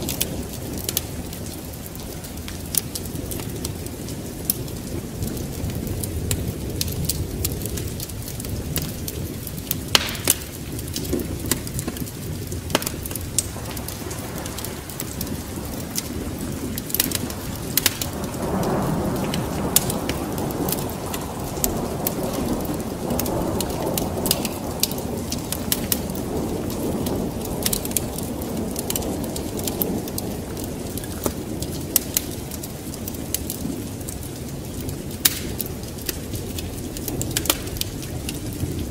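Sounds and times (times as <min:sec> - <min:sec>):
low roll of thunder: 0:00.0 - 0:38.9
steady rain: 0:00.0 - 0:38.9
wood fire crackling: 0:00.0 - 0:38.9.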